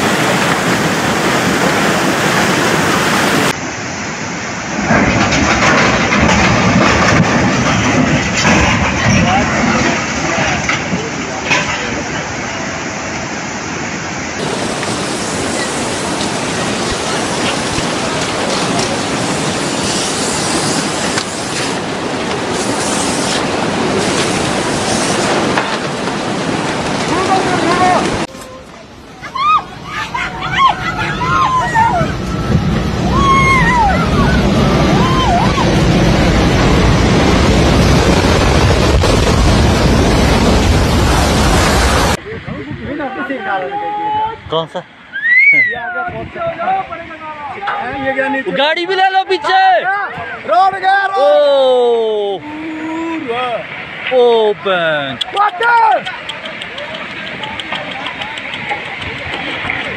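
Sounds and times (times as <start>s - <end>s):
rockslide rumble: 0.0s - 44.8s, 45.9s - 59.9s
floodwater rushing: 0.0s - 59.9s.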